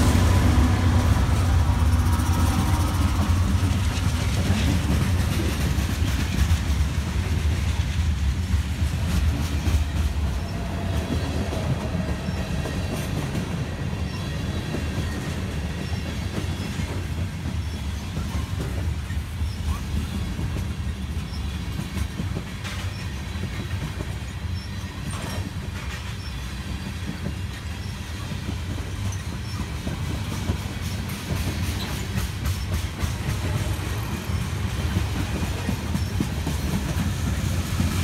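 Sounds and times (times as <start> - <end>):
steel wheels rumbling on rail: 0.0 - 38.0
wheels clicking over rail joints: 1.2 - 38.0.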